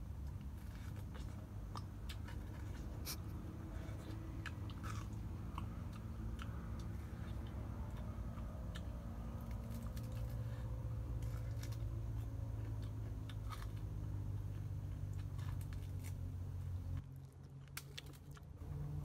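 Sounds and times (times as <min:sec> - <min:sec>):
person chewing crispy food: 0:00.0 - 0:19.0
steady low hum: 0:00.0 - 0:19.0.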